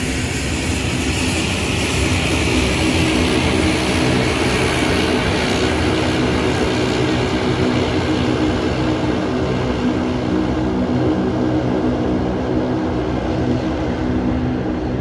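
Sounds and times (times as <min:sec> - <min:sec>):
aircraft engines roaring: 0:00.0 - 0:15.0.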